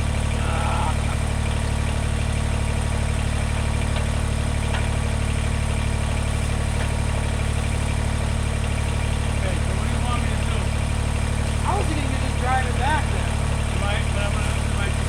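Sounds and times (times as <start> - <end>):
small diesel engine running: 0.0 - 15.0.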